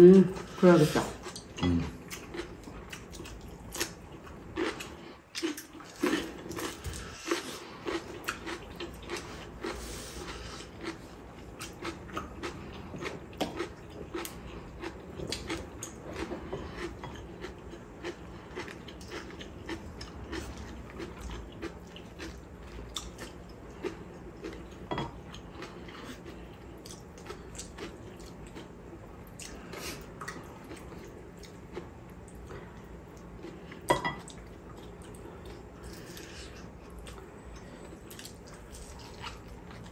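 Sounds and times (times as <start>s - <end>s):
chewing and biting: 1.2s - 39.9s.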